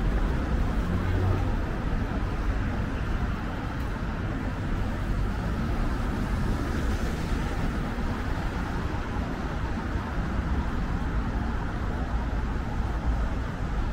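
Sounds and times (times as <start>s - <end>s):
road traffic rumble: 0.0s - 13.9s.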